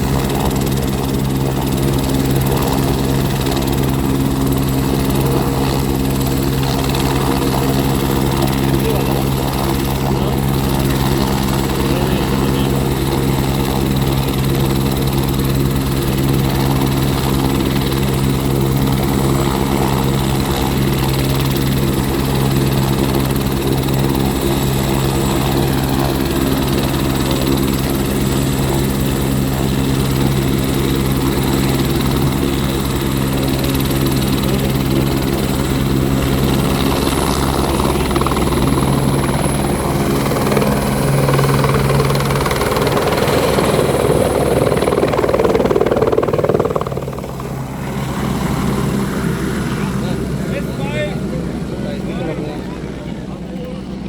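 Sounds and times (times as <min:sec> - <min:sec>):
helicopter drone: 0:00.0 - 0:54.0.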